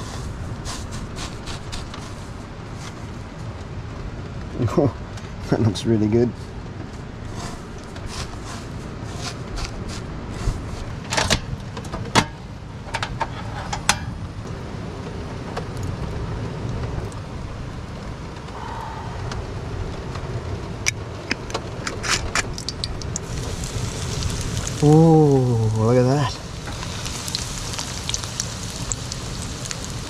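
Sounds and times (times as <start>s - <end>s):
rain on a vehicle: 0.0s - 11.8s, 14.2s - 30.0s.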